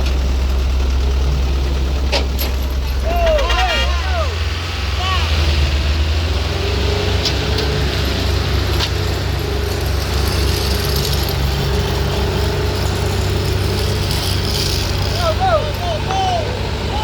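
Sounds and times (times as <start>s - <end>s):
large vehicle engine rumbling: 0.0s - 17.0s.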